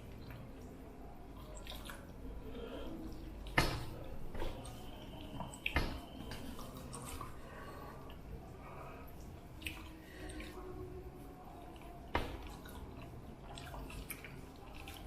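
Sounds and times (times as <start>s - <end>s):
wet squishing of food being eaten: 0.0s - 15.0s.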